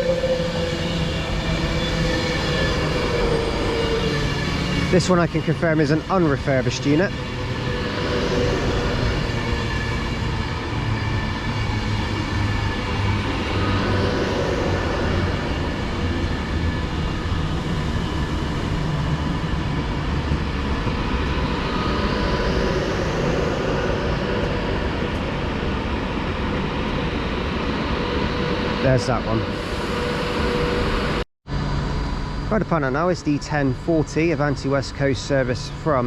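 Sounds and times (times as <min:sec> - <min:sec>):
electric train rumble: 0:00.0 - 0:36.0
electrical whine: 0:00.0 - 0:36.0.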